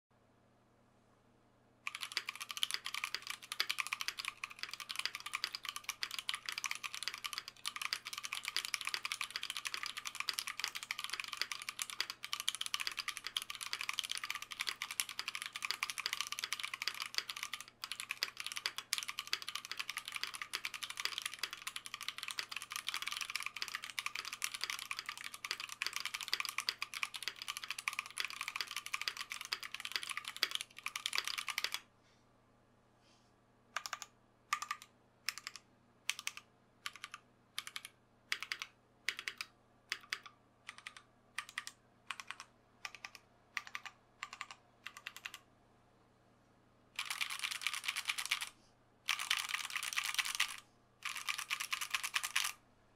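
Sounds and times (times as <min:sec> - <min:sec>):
mechanical keyboard typing: 0:01.9 - 0:31.8, 0:33.8 - 0:45.4, 0:47.0 - 0:52.6.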